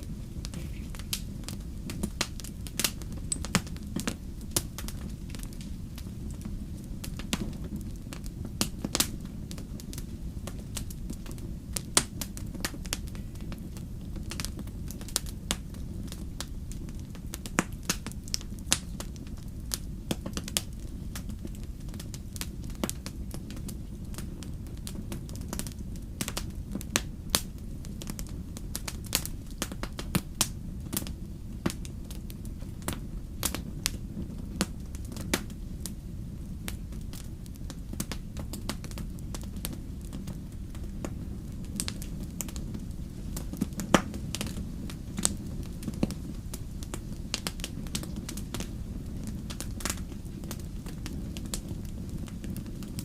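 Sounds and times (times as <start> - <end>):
low fire rumble: 0.0 - 53.0
wood fire popping and snapping: 0.0 - 53.0.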